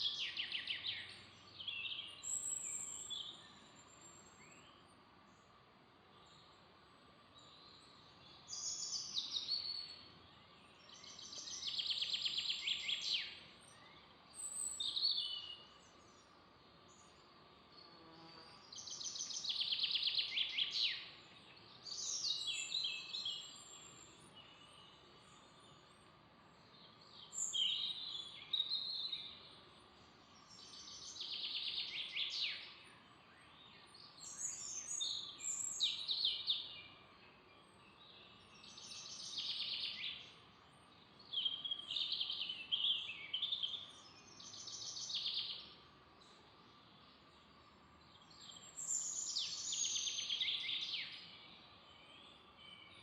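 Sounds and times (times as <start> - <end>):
faint steady background hiss: 0.0 - 53.0
songbirds singing: 0.0 - 53.0.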